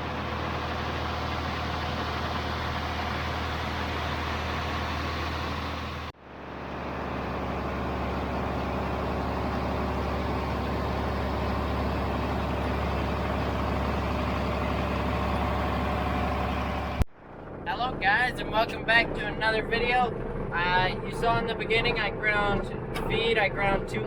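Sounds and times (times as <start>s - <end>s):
heavy farm engine running: 0.0s - 24.0s.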